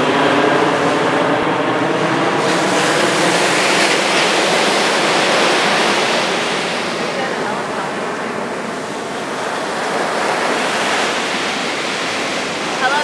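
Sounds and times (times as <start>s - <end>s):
helicopter engine and rotor hum: 0.0s - 13.0s
waves hissing: 0.6s - 13.0s.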